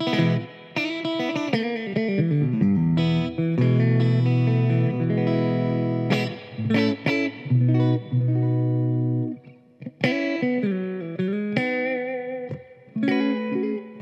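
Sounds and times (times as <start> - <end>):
electric guitar chords and notes: 0.0 - 14.0.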